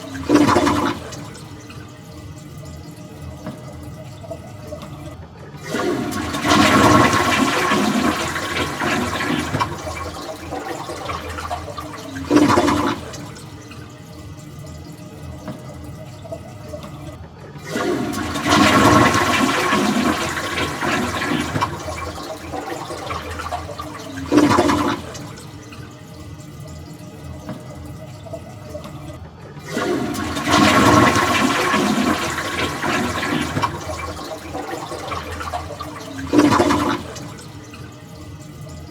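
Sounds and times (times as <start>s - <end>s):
quiet running water: 0.0s - 38.9s
toilet flushing: 0.0s - 38.9s.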